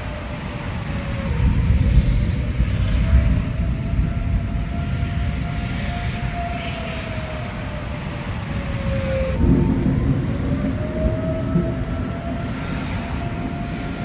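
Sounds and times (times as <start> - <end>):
low storm rumble: 0.0 - 14.0
tornado siren wailing: 0.0 - 14.0.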